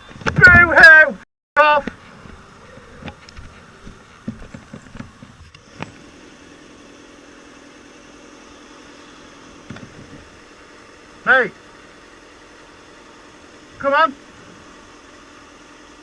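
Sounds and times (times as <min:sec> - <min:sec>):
vehicle engine idling: 0:00.8 - 0:16.0.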